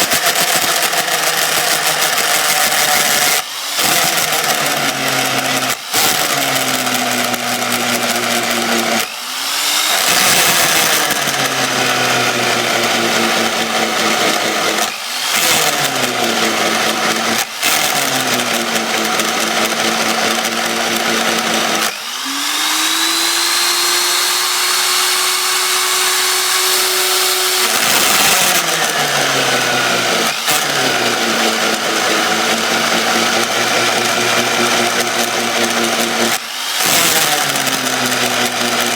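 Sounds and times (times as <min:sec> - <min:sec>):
electric drill motor cutting: 0:00.0 - 0:38.9.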